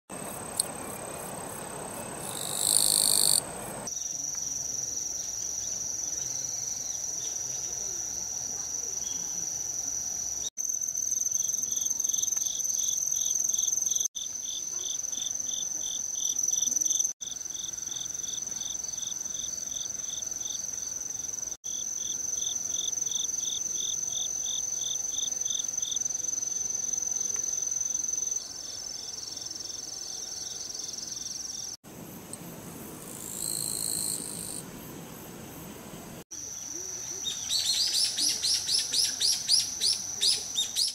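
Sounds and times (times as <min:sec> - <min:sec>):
crickets high continuous trill: 0:00.1 - 0:40.9
pulsing insect chirp: 0:00.1 - 0:40.9.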